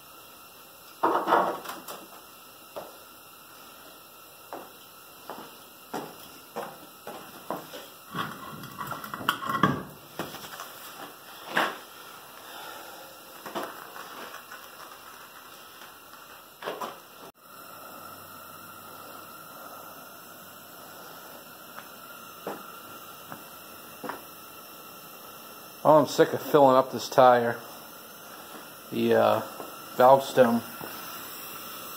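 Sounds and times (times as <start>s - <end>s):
steady low hum: 1.9s - 31.9s.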